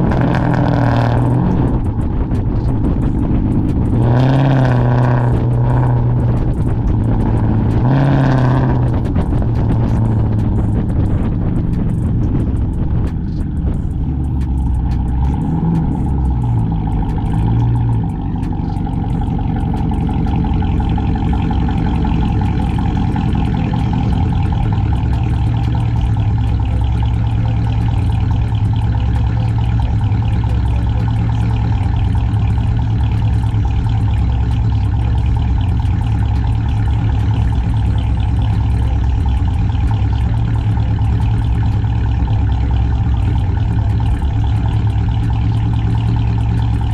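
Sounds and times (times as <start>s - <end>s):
car exhaust engine drone: 0.0s - 46.9s.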